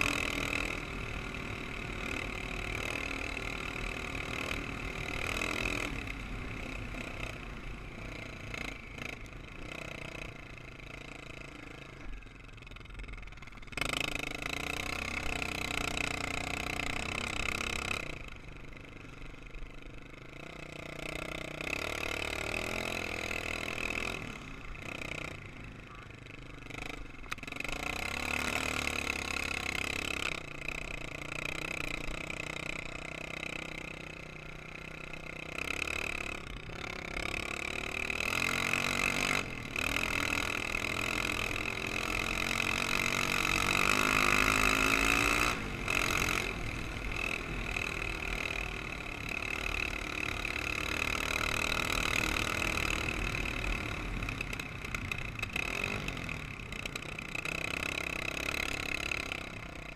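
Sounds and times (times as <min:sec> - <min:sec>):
other quad bike engines: 0:00.0 - 0:59.9
quad bike engine revving: 0:00.0 - 0:59.9.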